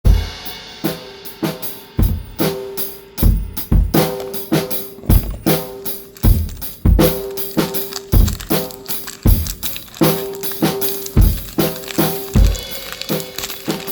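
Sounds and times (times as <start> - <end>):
drum kit beat: 0.0 - 13.9.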